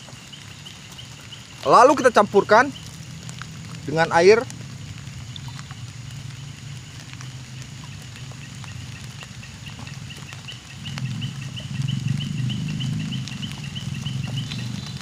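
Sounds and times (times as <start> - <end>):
low rumble: 2.2 - 15.0.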